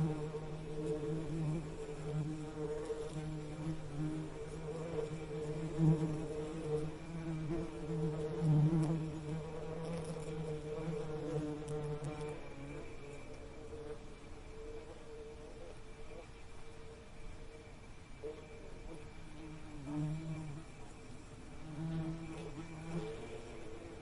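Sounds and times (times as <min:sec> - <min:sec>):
bee buzzing: 0:00.0 - 0:16.2, 0:18.2 - 0:24.0.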